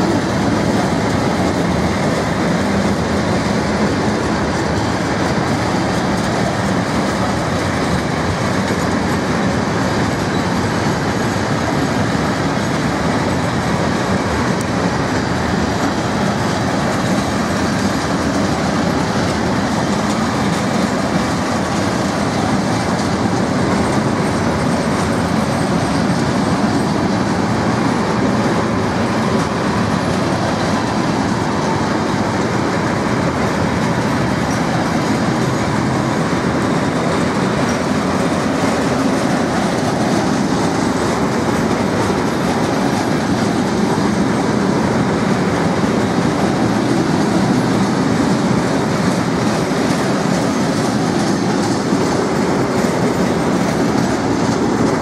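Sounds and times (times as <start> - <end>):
train wheels running on rails: 0.0 - 55.0
wagons rattling: 0.0 - 55.0.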